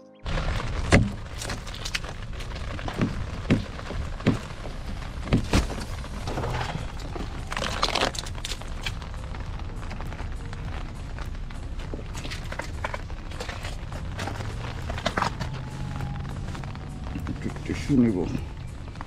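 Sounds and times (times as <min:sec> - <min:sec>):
ice cracking and crunching: 0:00.2 - 0:19.0.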